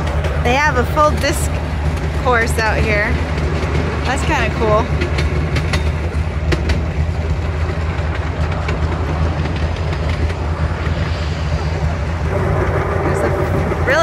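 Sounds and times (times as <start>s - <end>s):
train rumbling on track: 0.0s - 14.0s
wheels clicking on rails: 0.0s - 14.0s.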